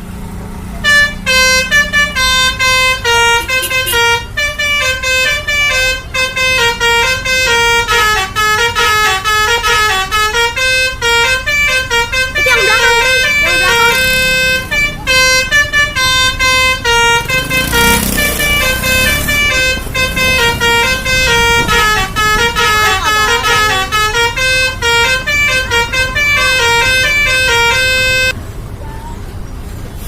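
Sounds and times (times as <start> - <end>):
multi-tone musical bus horn: 0.5 - 28.4.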